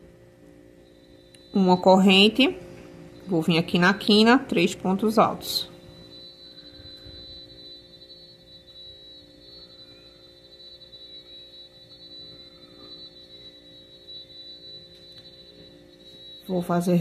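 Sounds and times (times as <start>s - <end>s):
faint steady hum: 0.0s - 17.0s
thin high whine: 0.0s - 17.0s.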